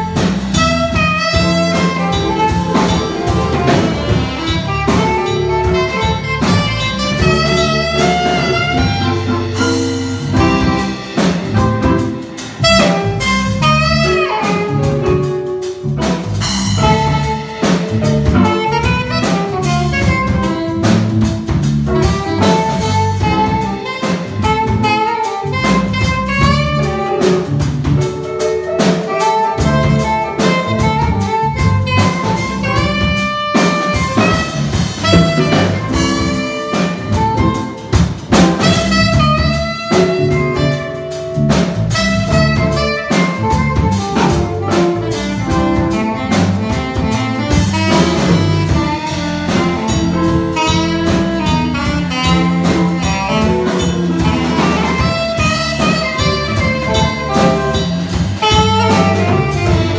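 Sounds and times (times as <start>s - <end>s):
alto saxophone melody: 0.0s - 59.9s
jazz-funk band playing: 0.0s - 59.9s.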